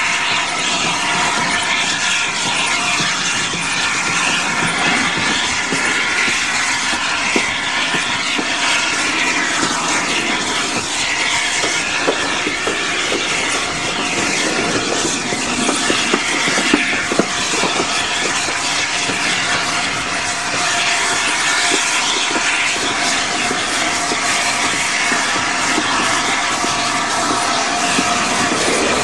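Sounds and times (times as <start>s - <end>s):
train wind and wheel noise: 0.0s - 29.0s
wheels clicking on rails: 0.0s - 29.0s.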